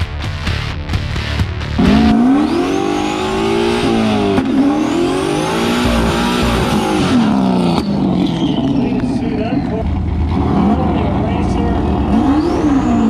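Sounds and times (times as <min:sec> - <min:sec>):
car engine at high revs: 0:01.6 - 0:13.0.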